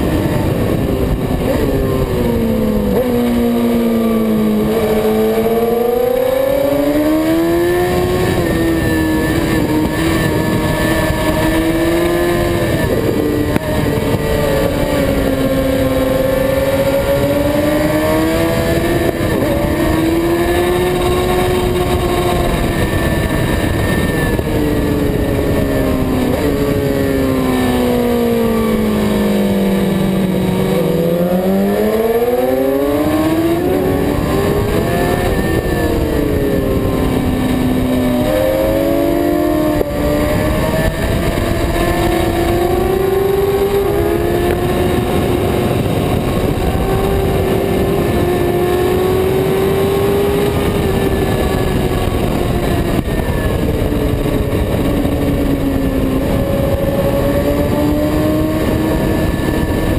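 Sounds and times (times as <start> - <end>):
motorbike engine revving: 0.0 - 59.9
wind rush: 0.0 - 59.9.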